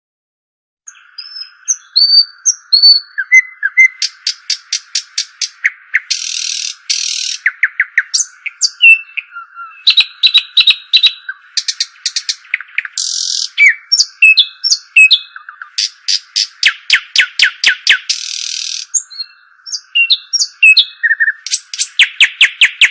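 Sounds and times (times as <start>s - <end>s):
songbirds chirping and trilling: 0.9s - 22.9s.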